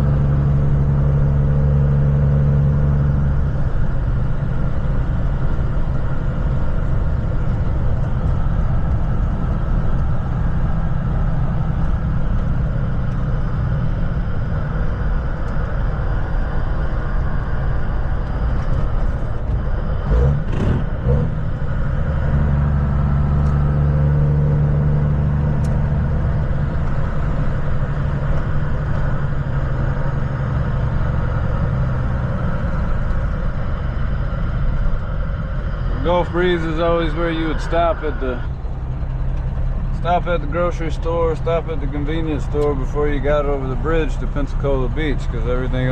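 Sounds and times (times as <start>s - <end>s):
vehicle engine and road rumble: 0.0s - 45.9s.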